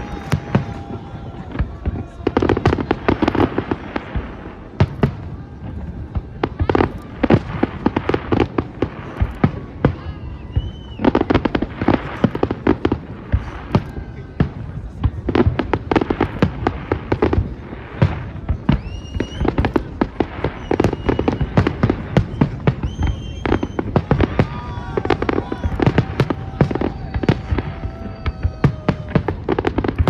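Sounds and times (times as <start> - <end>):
fireworks bangs and crackles: 0.0 - 30.0
fireworks whistles: 0.0 - 30.0.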